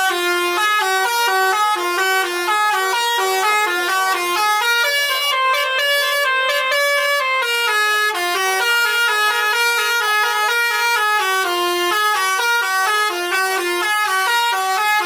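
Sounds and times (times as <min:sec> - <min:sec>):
musical air horn tune: 0:00.0 - 0:15.0.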